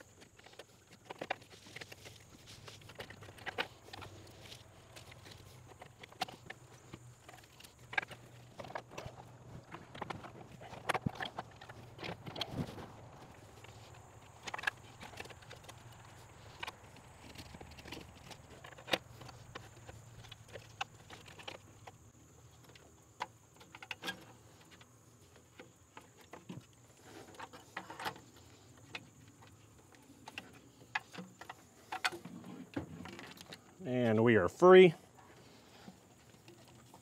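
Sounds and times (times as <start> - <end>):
light knocks clicks and rattles: 0.0 - 33.8.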